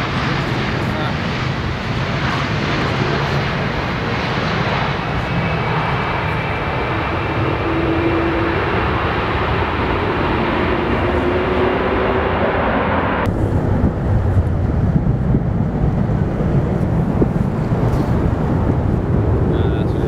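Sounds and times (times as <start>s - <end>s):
jet engines roaring: 0.0s - 20.0s
wind rumble on microphone: 0.0s - 20.0s.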